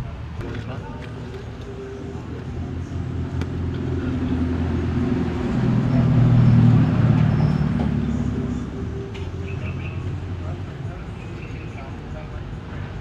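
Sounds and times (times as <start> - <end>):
vehicle engine running: 0.5 - 13.0.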